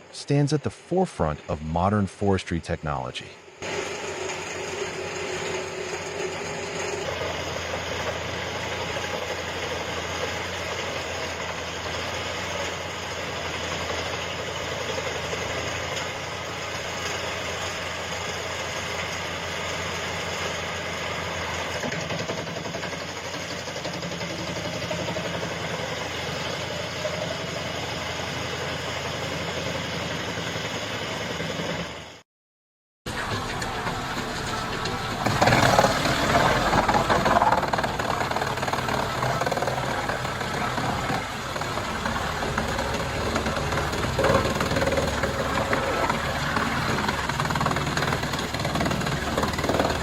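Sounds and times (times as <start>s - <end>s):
wood chipper running: 3.5s - 32.2s, 33.1s - 50.0s.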